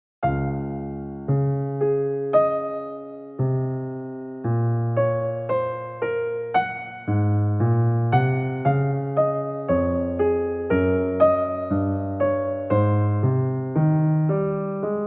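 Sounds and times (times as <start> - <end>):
soft piano music: 0.2 - 15.0.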